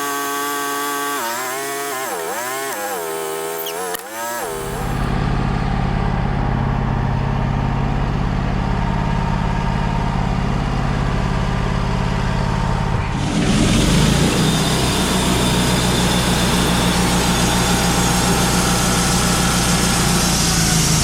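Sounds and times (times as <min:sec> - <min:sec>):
sawmill engine idling: 0:00.0 - 0:21.0.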